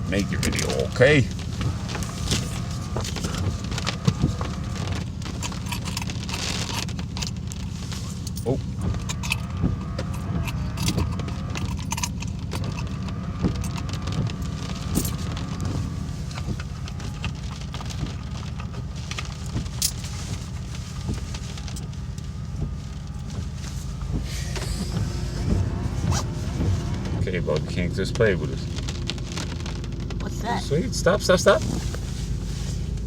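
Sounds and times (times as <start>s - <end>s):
car interior rumble: 0.0s - 33.0s.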